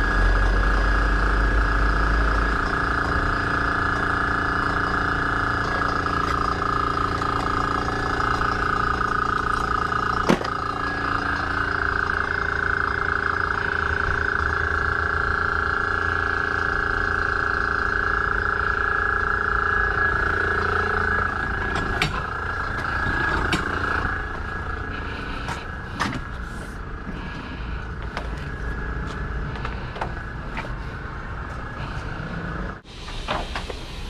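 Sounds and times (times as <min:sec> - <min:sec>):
engine and pump whining: 0:00.0 - 0:34.0.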